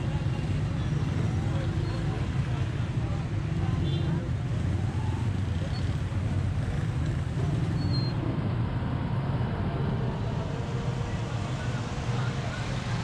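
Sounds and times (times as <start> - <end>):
crowded street noise: 0.0 - 13.0.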